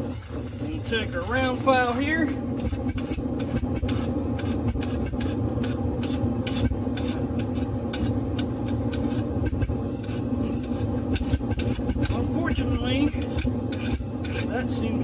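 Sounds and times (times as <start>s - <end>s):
shop equipment droning: 0.0s - 15.0s
hot steel blade ticking and crackling: 2.5s - 15.0s.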